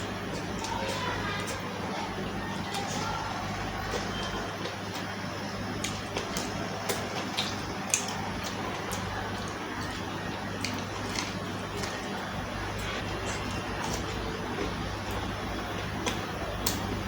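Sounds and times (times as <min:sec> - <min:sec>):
steady low hum: 0:00.0 - 0:17.0
wet chewing and mouth smacks: 0:02.6 - 0:17.0.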